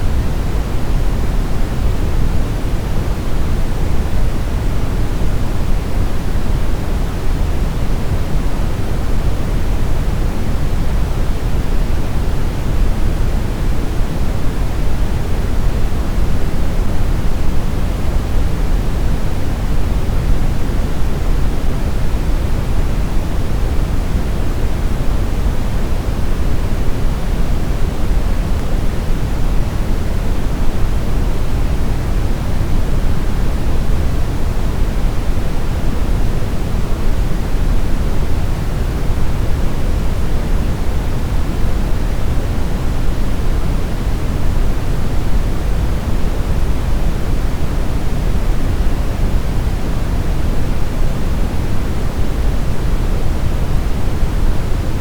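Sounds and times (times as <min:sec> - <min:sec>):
brown noise rumbling hiss: 0:00.0 - 0:55.0.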